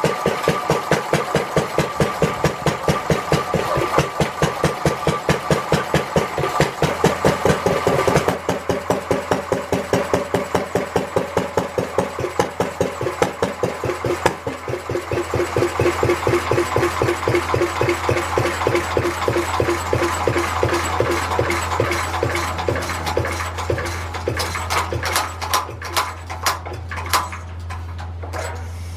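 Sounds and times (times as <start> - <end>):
stationary engine running: 0.0 - 27.5.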